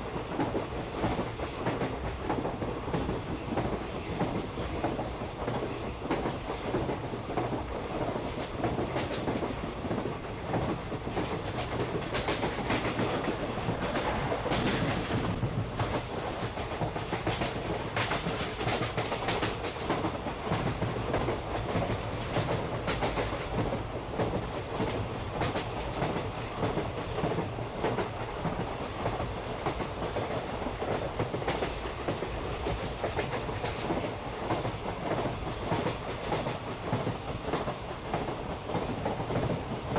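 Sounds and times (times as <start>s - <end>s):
train running rumble: 0.0s - 39.9s.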